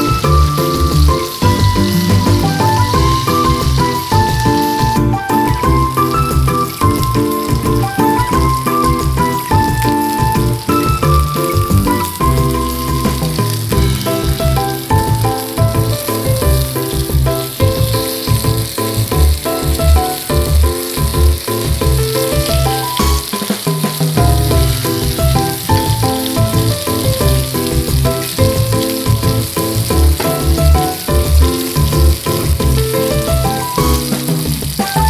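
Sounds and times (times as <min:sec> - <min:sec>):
background music: 0:00.0 - 0:35.0
food sizzling in a pan: 0:00.0 - 0:35.0.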